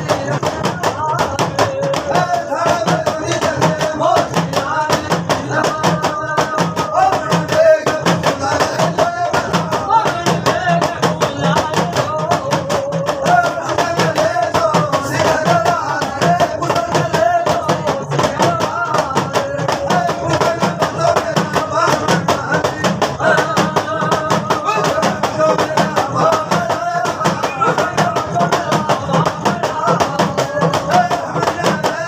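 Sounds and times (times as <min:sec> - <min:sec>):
fast percussion beat: 0:00.0 - 0:32.0.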